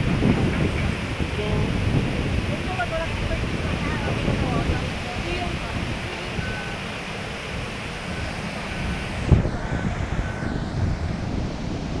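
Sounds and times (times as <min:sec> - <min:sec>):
water rushing down stream: 0:00.0 - 0:12.0
wind buffeting microphone: 0:00.0 - 0:12.0.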